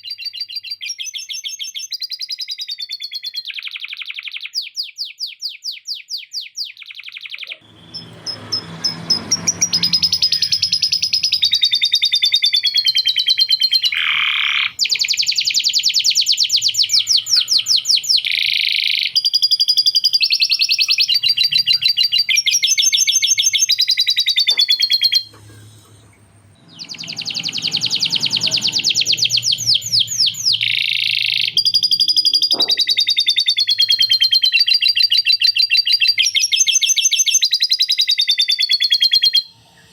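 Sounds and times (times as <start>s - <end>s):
canary singing trills: 0.0s - 39.6s.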